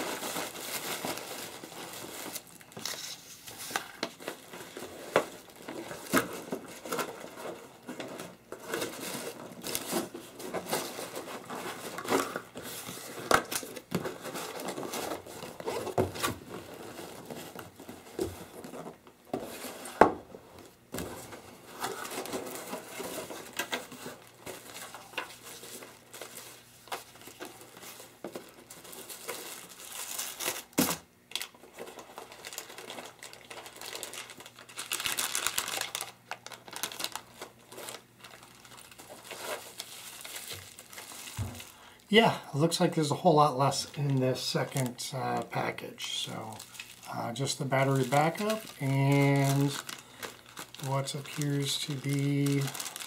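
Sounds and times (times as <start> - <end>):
plastic packaging crinkling: 0.0 - 20.0, 20.6 - 53.0.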